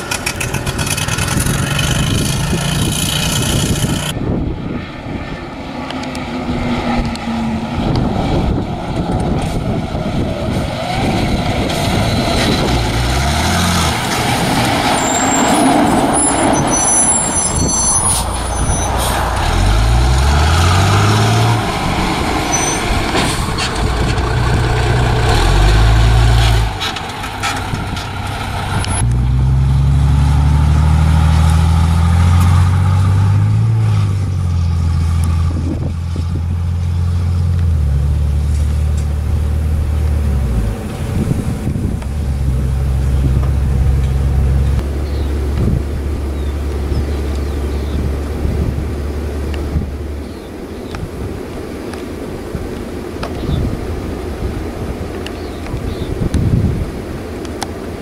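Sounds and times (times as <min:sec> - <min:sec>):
fire truck engine revving: 0:00.0 - 0:50.1.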